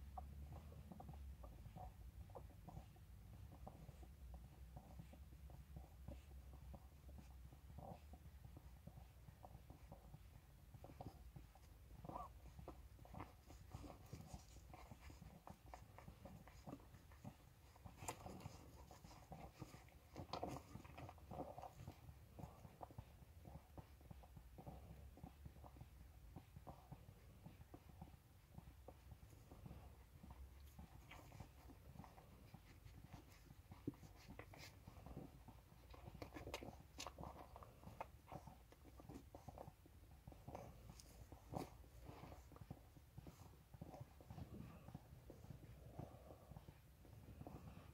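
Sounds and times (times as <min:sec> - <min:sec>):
puppies suckling: 0:00.0 - 0:47.9.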